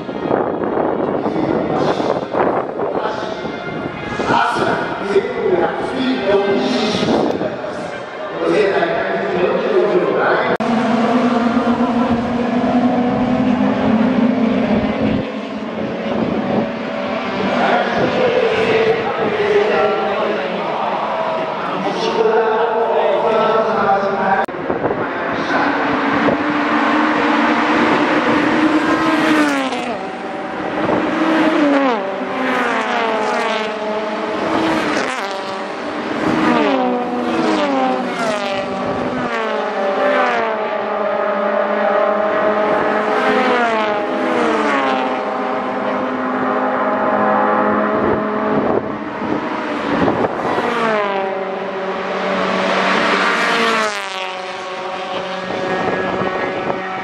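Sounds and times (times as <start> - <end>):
race cars passing at speed: 0.0 - 57.0.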